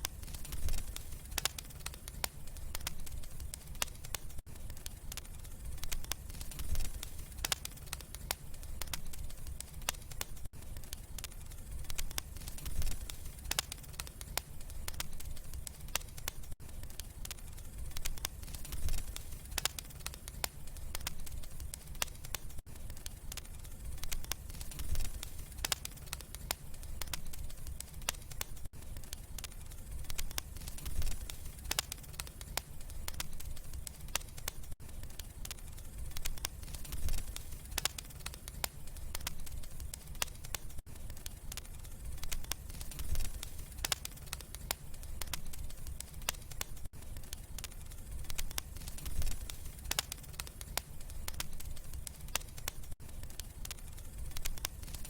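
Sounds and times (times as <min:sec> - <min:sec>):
low rumble of flames: 0:00.0 - 0:55.0
wood fire crackling: 0:00.0 - 0:55.0.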